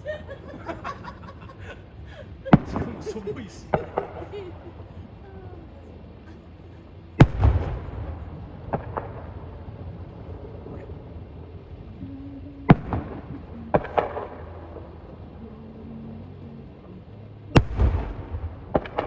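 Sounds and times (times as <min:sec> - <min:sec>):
fireworks bangs: 0:00.0 - 0:05.2, 0:05.9 - 0:15.8, 0:17.5 - 0:19.0.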